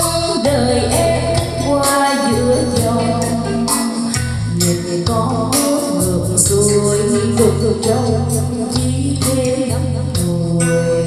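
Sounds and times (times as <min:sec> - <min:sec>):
karaoke backing track with beat: 0:00.0 - 0:11.0
woman singing into microphone: 0:00.0 - 0:11.0.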